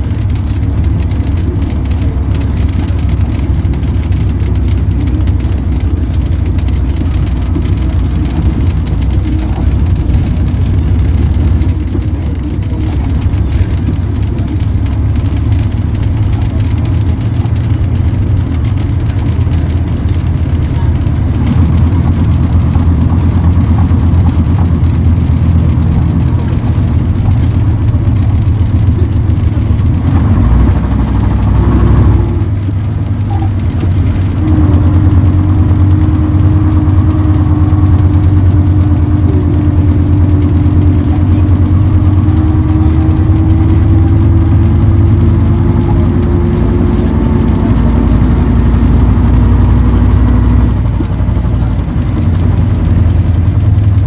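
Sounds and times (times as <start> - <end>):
bus diesel engine drone: 0.0 - 54.0
steady whine: 0.0 - 54.0.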